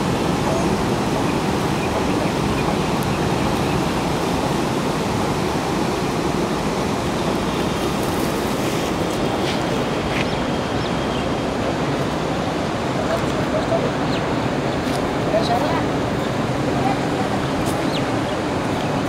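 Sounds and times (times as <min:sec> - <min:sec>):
fast-flowing river rushing: 0:00.0 - 0:19.0.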